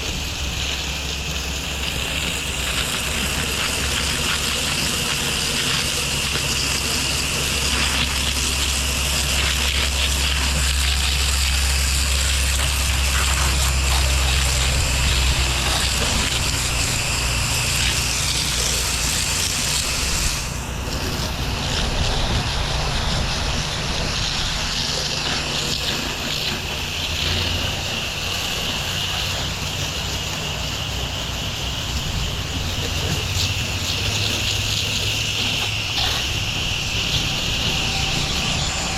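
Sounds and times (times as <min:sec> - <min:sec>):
pressure washer engine hum: 0:00.0 - 0:38.9
water spraying hiss: 0:00.0 - 0:38.9.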